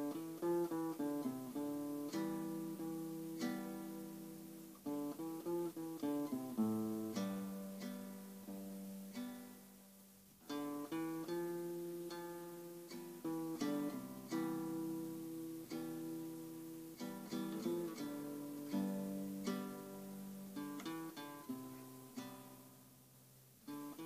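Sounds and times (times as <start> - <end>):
nylon-string guitar fingerstyle: 0.0 - 24.0.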